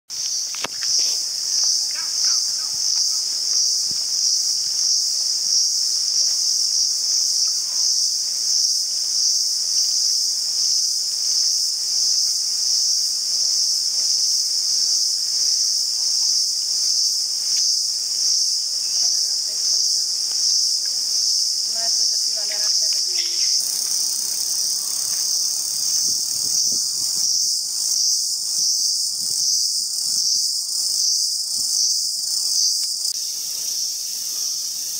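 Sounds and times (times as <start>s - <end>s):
chorus of forest insects: 0.1s - 34.9s
high hiss: 0.1s - 34.9s.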